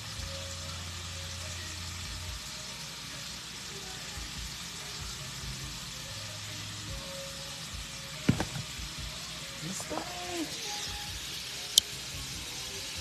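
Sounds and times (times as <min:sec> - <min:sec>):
shrimp sizzling in skillet: 0:00.0 - 0:13.0.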